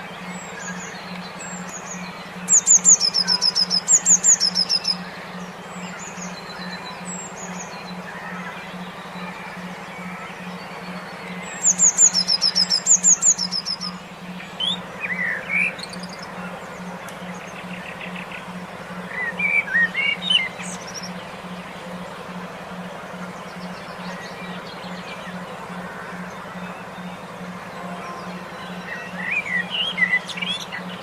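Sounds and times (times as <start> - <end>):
low pulsing hum: 0.0 - 31.0
songbird chirping: 0.0 - 31.0.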